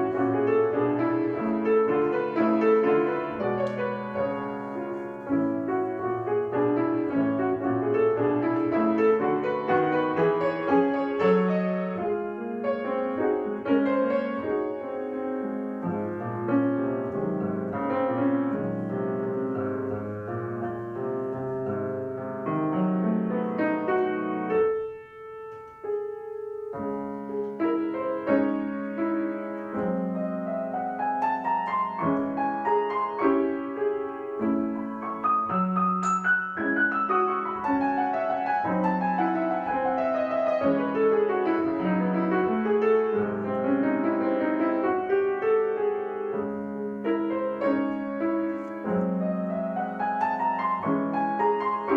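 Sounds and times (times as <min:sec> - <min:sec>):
solo piano piece: 0:00.0 - 0:51.9.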